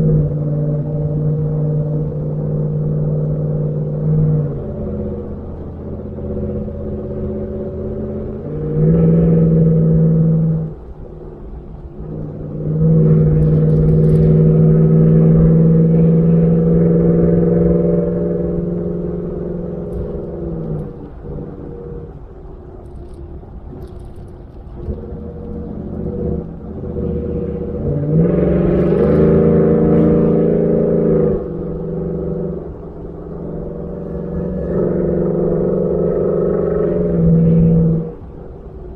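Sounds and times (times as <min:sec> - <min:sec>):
truck exhaust droning: 0:00.0 - 0:38.9.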